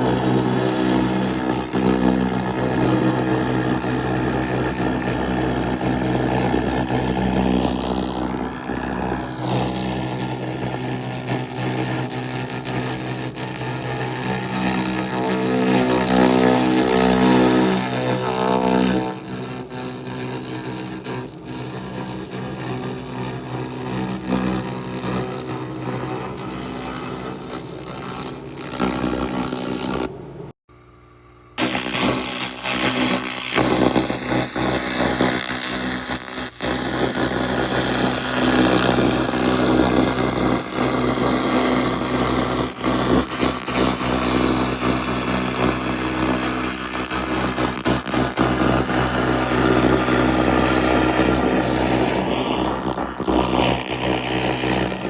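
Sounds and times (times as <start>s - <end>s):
laser rust remover buzzing: 0.0s - 30.5s, 31.2s - 55.0s.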